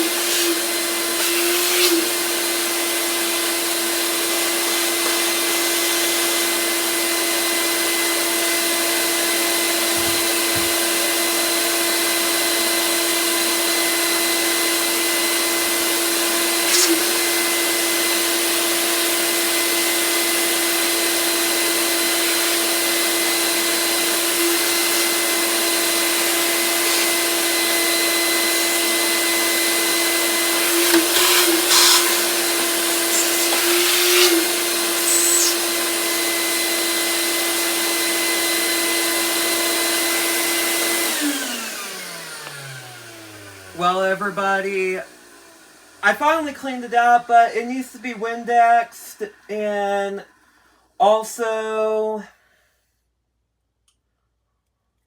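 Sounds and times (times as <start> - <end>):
upright vacuum cleaner running: 0.0 - 51.8.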